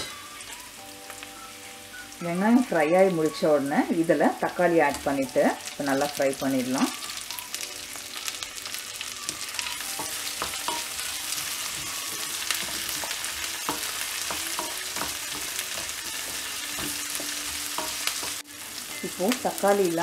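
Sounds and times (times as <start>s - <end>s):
onion and tomato sizzling in oil: 0.0s - 20.0s.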